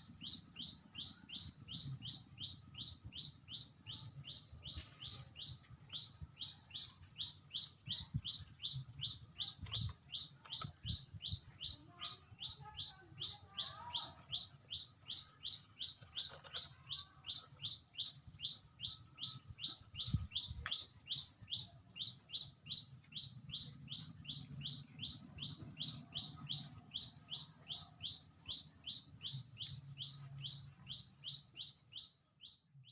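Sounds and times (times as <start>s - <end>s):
small bird chirping: 0.0s - 32.9s.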